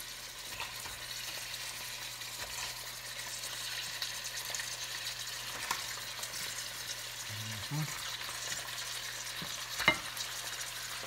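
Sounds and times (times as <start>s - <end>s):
fish sizzling in a skillet: 0.0s - 11.0s.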